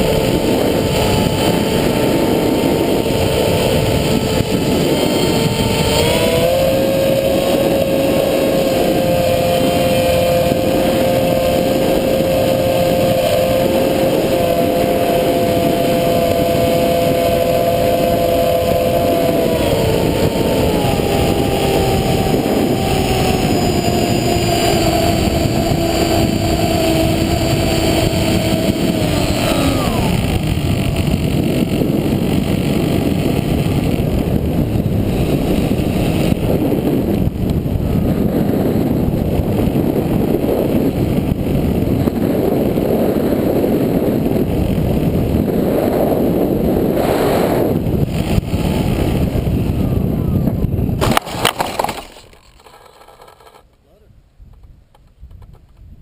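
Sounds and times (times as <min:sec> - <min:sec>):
electric motor whine: 0:00.0 - 0:53.7
wind rumble on microphone: 0:00.0 - 0:56.0.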